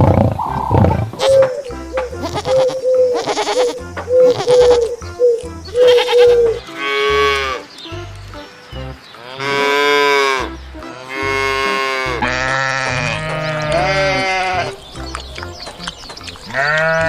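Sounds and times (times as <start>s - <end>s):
deep animal call: 0.0s - 17.0s
farm animals bleating: 1.0s - 17.0s.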